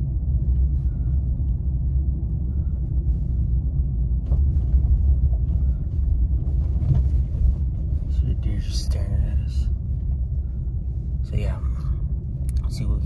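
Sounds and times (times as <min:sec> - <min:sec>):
engine and road noise: 0:00.0 - 0:13.0.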